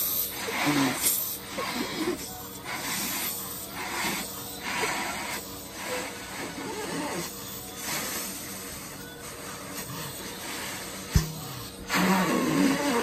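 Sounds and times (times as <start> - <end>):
person blowing up balloon: 0.0 - 13.0.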